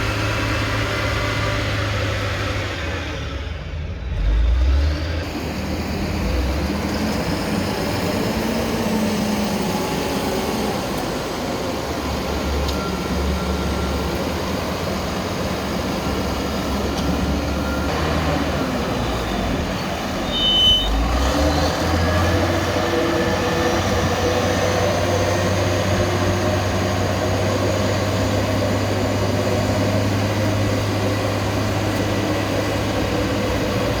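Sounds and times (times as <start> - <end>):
diesel engines running: 0.0 - 34.0.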